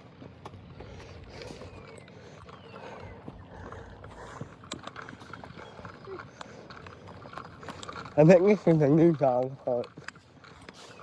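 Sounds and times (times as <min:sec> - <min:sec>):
footsteps on a trail: 0:00.0 - 0:11.0.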